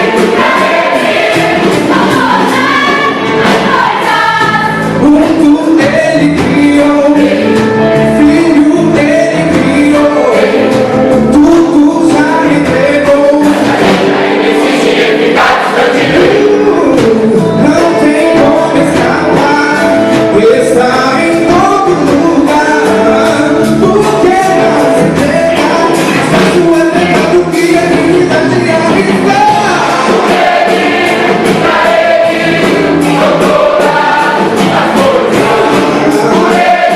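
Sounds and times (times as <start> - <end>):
gospel choir singing: 0.0 - 20.8, 21.8 - 36.9
instrumental accompaniment: 0.0 - 36.9.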